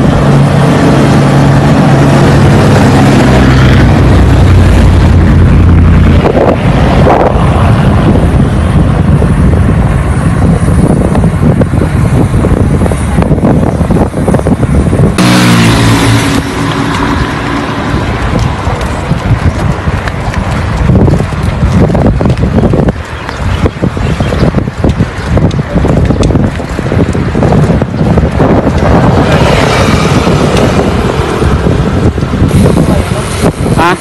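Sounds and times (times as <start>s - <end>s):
passing road traffic: 0.0s - 34.0s
vehicle engine humming: 0.0s - 34.0s
wind rushing over microphone: 0.0s - 34.0s.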